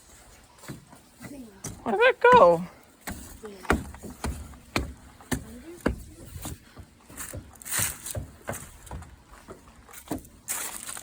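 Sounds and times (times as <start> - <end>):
crunching footsteps: 0.0 - 11.0.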